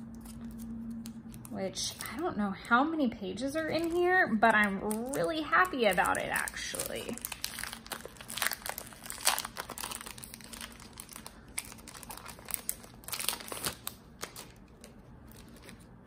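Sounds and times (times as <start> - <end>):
plastic wrapping crinkling: 0.0 - 2.3, 3.5 - 16.0.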